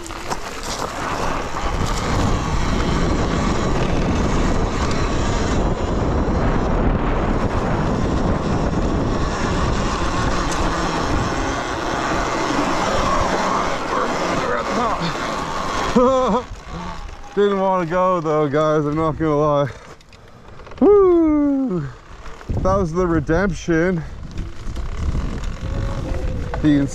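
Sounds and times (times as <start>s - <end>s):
wind buffeting microphone: 0.0s - 19.7s, 20.8s - 26.9s.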